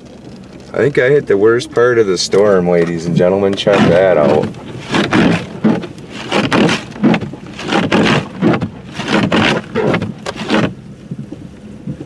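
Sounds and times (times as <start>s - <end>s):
car driving through snow: 0.0s - 12.0s.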